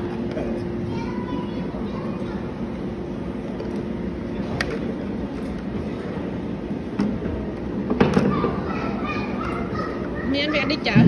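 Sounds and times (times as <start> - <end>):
low hall rumble: 0.0 - 11.0.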